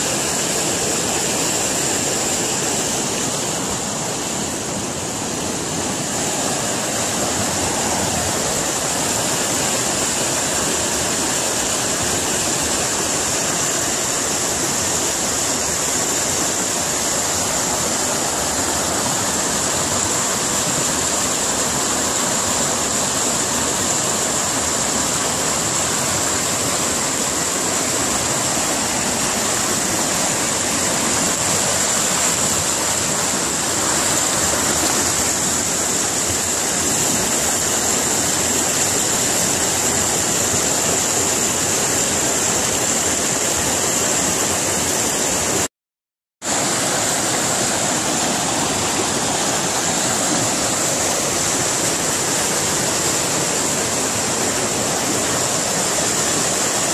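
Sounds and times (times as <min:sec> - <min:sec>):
river rushing over rocks: 0:00.0 - 0:45.7, 0:46.4 - 0:56.9.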